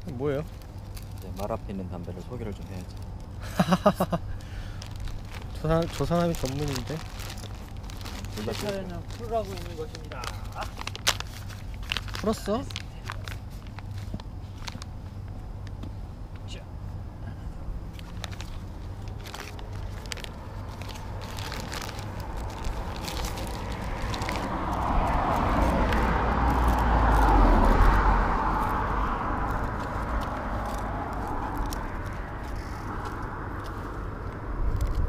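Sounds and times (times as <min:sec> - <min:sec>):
plastic bag crinkling: 0:00.0 - 0:14.9, 0:17.9 - 0:34.0
vehicle passing rush and rumble: 0:00.0 - 0:35.0.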